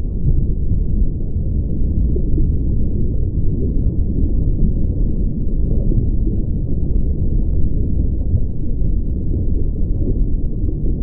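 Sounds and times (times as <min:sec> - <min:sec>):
muffled underwater rumble: 0:00.0 - 0:11.0.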